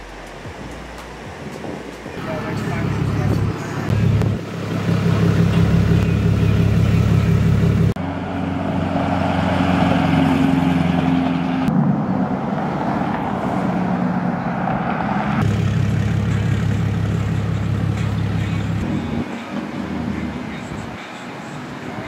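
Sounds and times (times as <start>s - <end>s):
pickup truck engines running: 0.0s - 22.0s.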